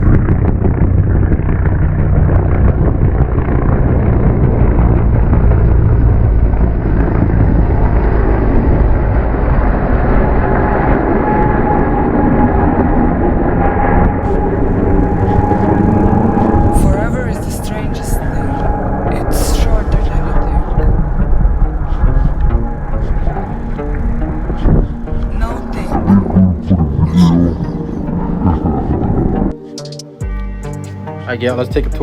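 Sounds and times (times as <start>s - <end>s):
vehicle engine rumble: 0.0s - 29.7s.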